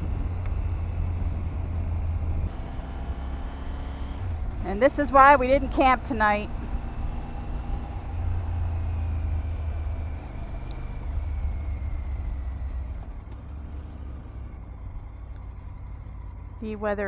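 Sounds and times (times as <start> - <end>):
motorcycle engine rumble: 0.0 - 17.0
road and wind noise: 0.0 - 17.0.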